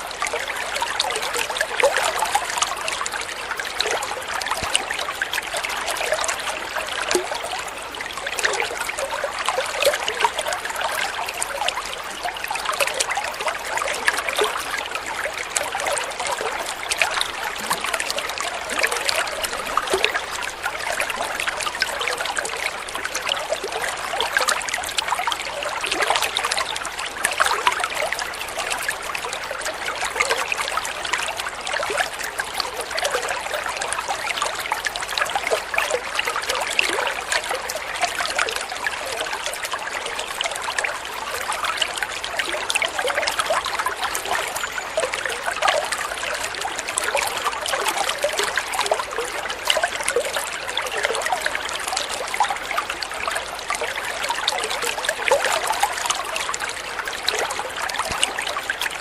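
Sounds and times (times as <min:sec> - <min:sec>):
water flowing and trickling: 0:00.0 - 0:59.0.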